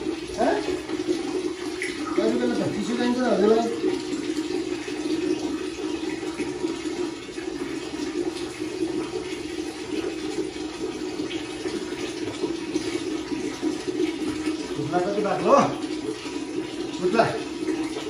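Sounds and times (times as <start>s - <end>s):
water running from tap: 0.0s - 18.0s.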